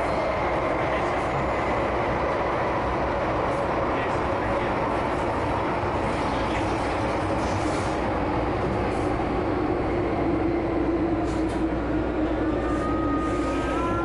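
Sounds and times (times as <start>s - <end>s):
subway train rumble and hum: 0.0s - 14.0s.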